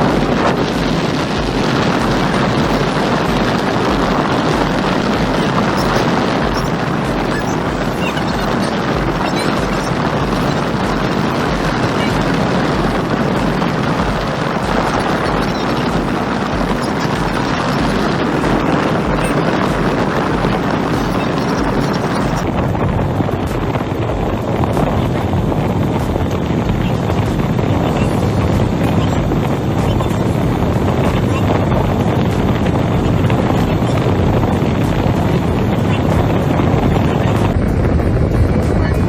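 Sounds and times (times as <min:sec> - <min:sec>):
car engine humming: 0:00.0 - 0:39.0.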